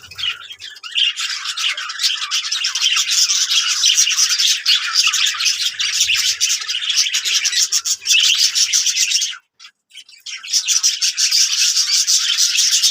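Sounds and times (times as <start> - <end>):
budgerigars chattering: 0.0 - 12.9.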